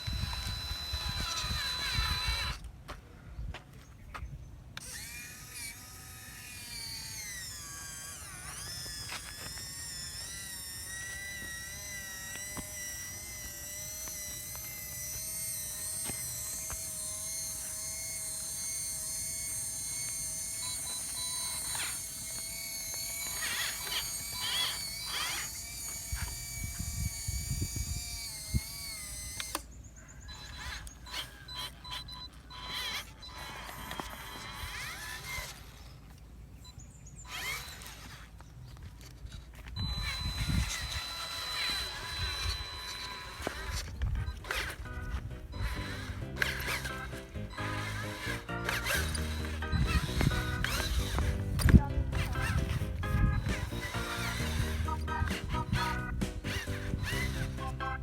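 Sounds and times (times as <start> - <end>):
electric motor whining: 0.0 - 2.7, 4.8 - 58.0.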